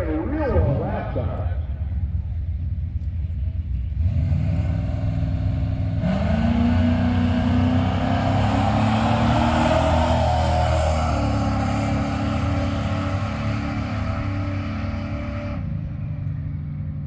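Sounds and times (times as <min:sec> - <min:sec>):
truck engine rumbling and revving: 0:00.0 - 0:17.0.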